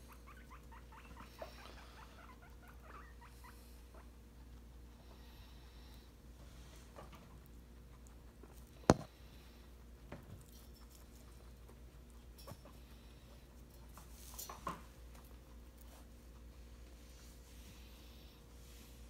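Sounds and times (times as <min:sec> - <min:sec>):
guinea pigs rustling: 0:00.0 - 0:19.0.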